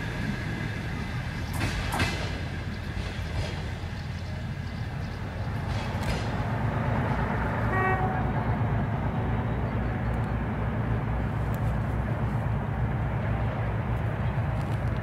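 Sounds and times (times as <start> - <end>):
diesel train engine rumbling: 0.0 - 15.0.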